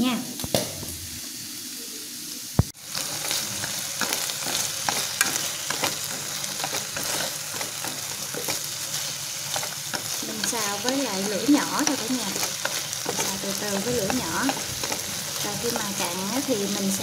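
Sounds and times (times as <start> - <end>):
offal sizzling in a pan: 0.0 - 17.0
chopsticks stirring crackles: 2.8 - 17.0.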